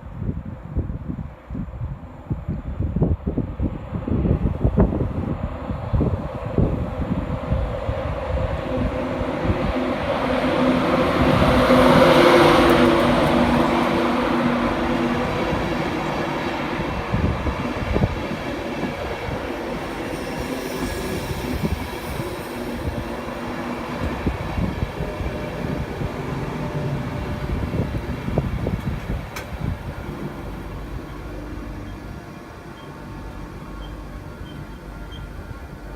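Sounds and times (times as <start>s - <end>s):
train passing: 3.5s - 35.9s
rushing of train wheels: 3.9s - 35.9s.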